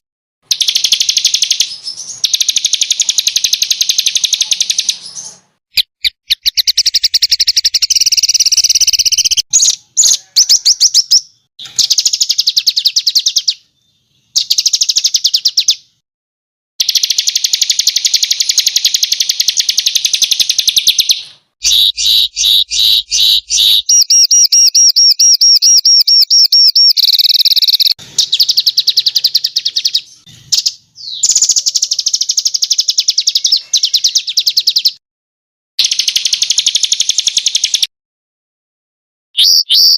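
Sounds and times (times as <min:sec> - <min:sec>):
small songbirds singing trills: 0:00.5 - 0:16.0, 0:16.8 - 0:35.0.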